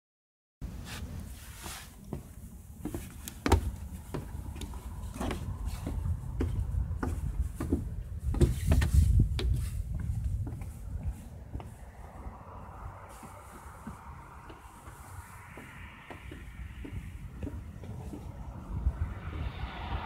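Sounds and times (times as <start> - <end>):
footsteps on wooden boards: 0.9 - 19.5
wind rumble on microphone: 2.4 - 20.0.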